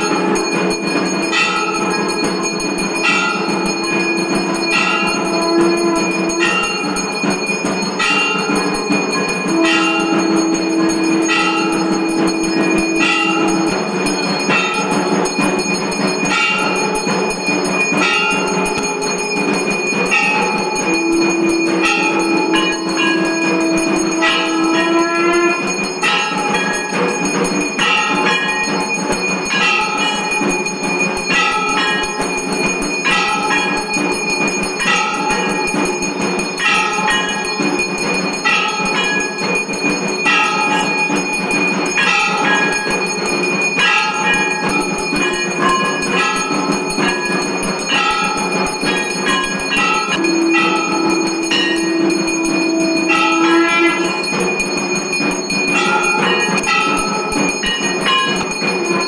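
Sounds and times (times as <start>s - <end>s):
hand bell ringing: 0.0s - 59.0s.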